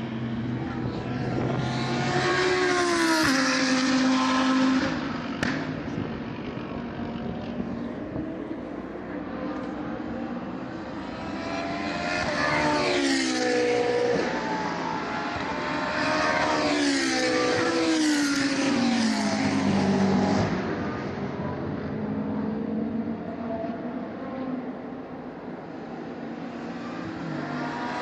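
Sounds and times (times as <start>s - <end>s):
race cars passing at speed: 0.0s - 28.0s.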